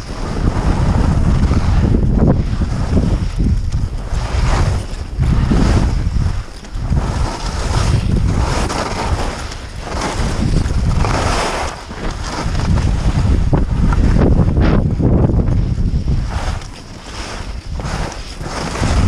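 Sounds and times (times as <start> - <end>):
skis hissing through snow: 0.0 - 19.0
wind buffeting microphone: 0.0 - 19.0.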